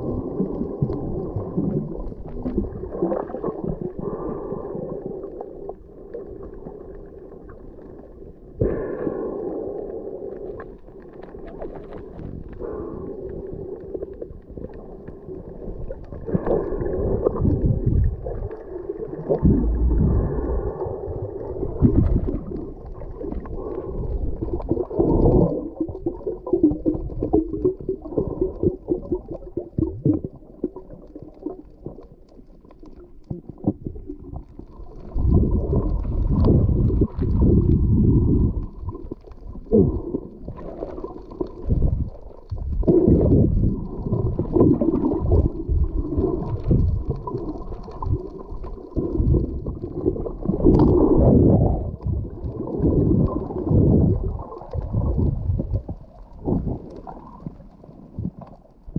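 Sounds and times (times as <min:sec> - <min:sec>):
muffled underwater water gurgling: 0:00.0 - 0:58.9.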